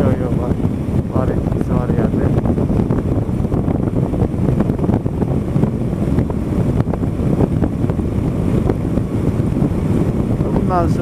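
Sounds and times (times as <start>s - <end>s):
motorcycle engine: 0.0s - 11.0s
wind buffeting microphone: 0.0s - 11.0s.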